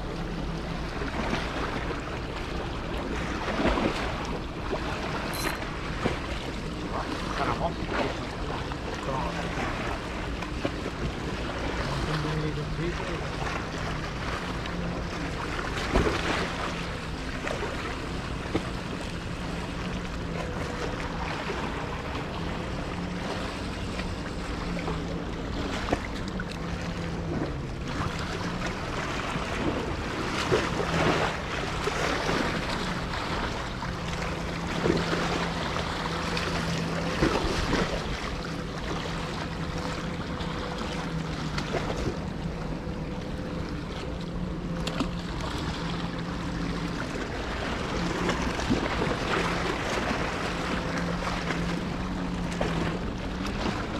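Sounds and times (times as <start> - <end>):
boat engine hum: 0.0 - 53.9.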